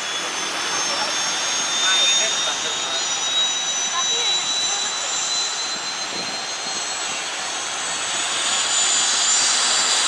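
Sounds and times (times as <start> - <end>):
helicopter turbine engines whining: 0.0 - 10.0.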